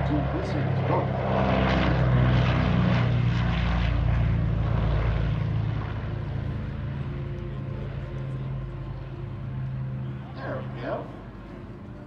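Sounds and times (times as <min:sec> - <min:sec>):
propeller aircraft drone: 0:00.0 - 0:12.0.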